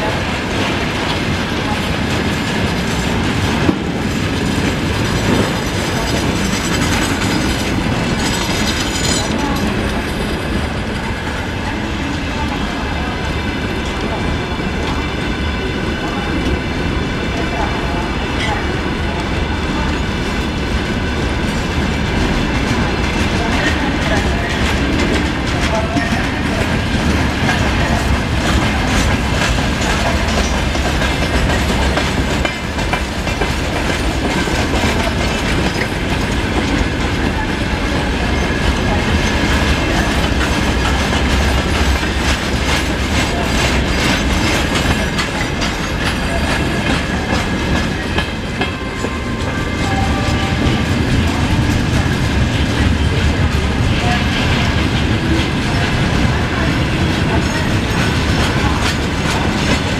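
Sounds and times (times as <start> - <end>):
wheels clacking over rail joints: 0.0 - 12.2, 21.4 - 59.9
freight train rumbling past: 0.0 - 59.9.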